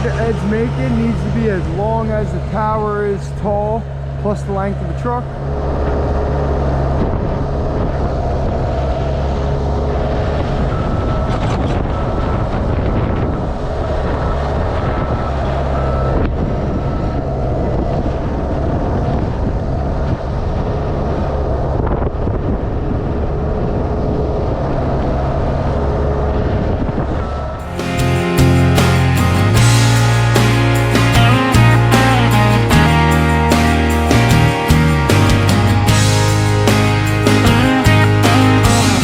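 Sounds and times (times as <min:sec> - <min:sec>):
engine running steadily: 0:00.0 - 0:39.0.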